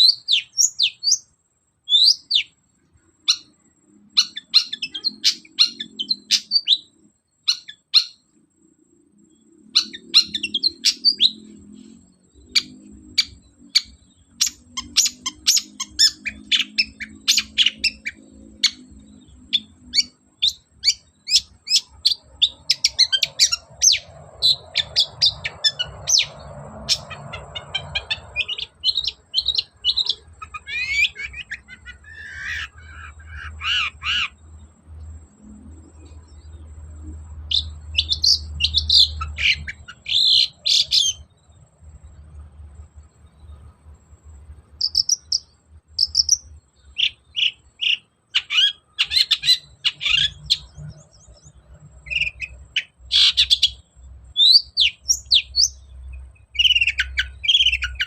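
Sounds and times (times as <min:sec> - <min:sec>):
bird singing sharp chirps and trills: 0:00.0 - 0:58.0.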